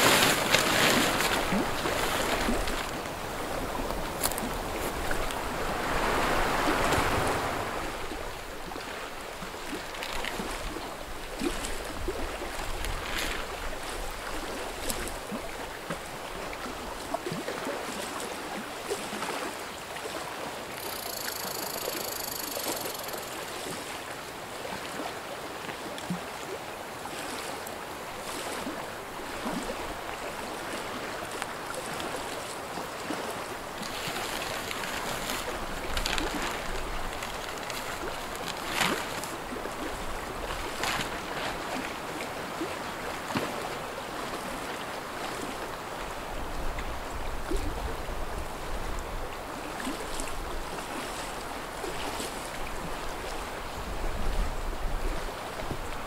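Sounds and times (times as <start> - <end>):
waves lapping at shore: 0.0 - 56.0
wind: 0.0 - 56.0.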